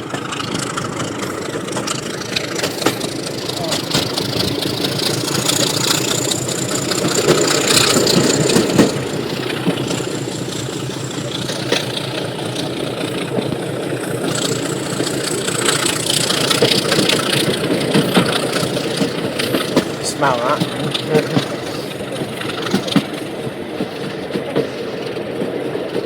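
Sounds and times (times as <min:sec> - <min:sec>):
diesel train running: 0:00.0 - 0:26.0.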